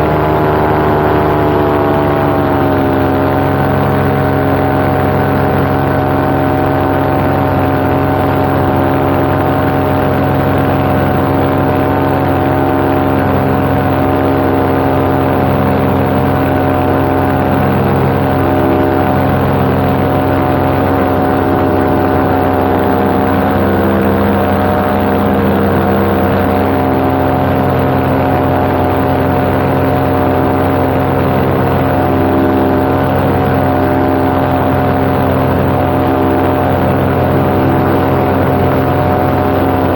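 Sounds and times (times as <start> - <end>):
paramotor engine and propeller drone: 0.0 - 39.9.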